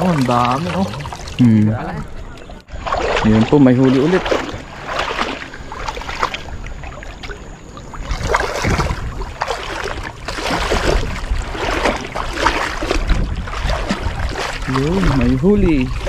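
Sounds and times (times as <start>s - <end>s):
river water splashing: 0.0s - 16.0s.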